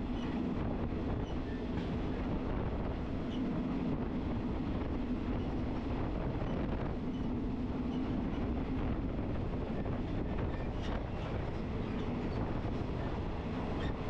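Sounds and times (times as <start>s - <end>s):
constant low hum: 0.0s - 14.0s
train wheels rumbling on rails: 0.0s - 14.0s.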